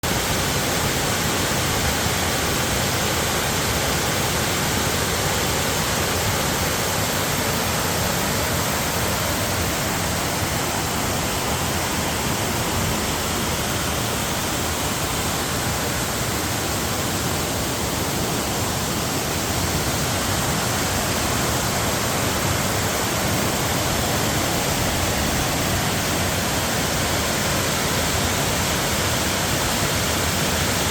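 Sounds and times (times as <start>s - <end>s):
waterfall roaring: 0.0s - 30.9s.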